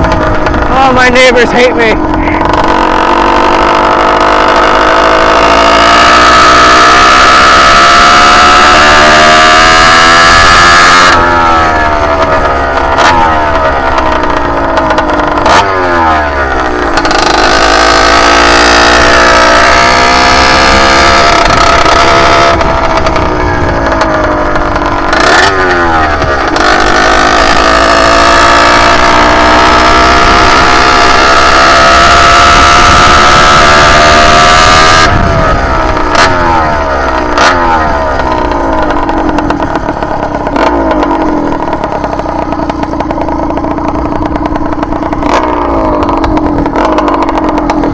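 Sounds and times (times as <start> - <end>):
two-stroke engine revving: 0.0 - 47.9.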